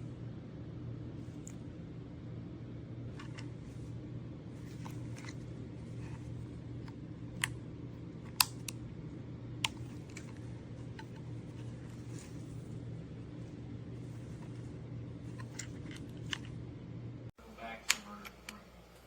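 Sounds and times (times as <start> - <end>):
low hum: 0.0 - 17.4.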